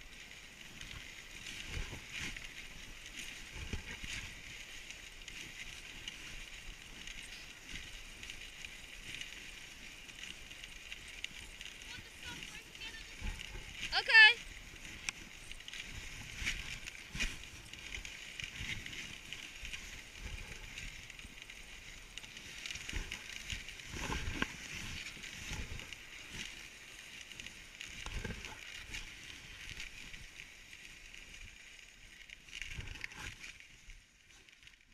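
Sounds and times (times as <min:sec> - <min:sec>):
sled runners hissing on snow: 0:00.0 - 0:34.6.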